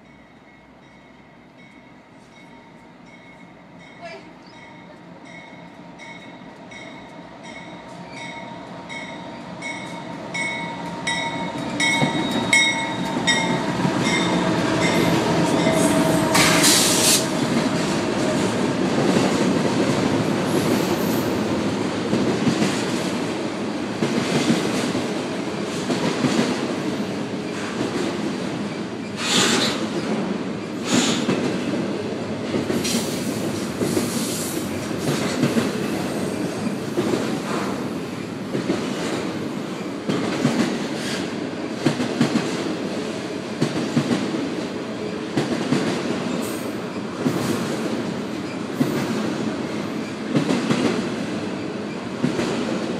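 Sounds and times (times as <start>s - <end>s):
train wheel rumble: 4.1s - 52.9s.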